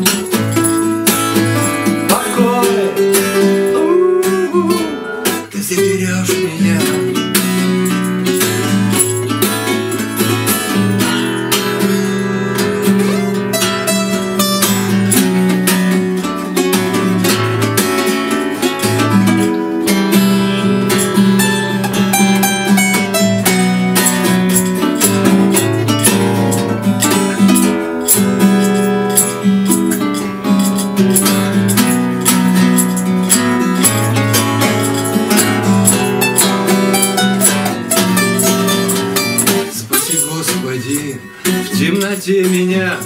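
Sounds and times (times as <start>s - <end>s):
acoustic guitars strumming: 0.0s - 43.0s.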